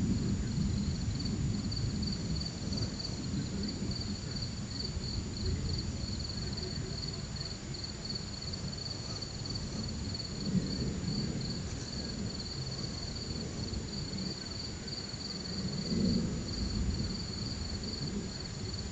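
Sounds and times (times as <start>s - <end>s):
distant thunder rumbling: 0.0s - 18.9s
night insects chirping: 0.0s - 18.9s.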